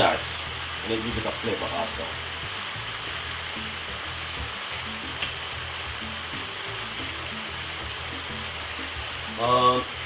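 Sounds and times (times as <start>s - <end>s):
background music with bassline: 0.0s - 10.0s
vegetables sizzling in a frying pan: 0.0s - 10.0s.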